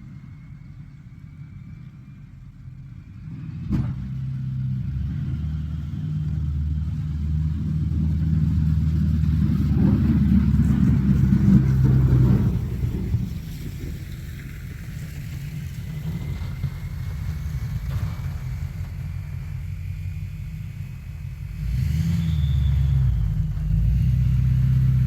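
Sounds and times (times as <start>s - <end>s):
truck engine working under load: 0.0s - 25.0s.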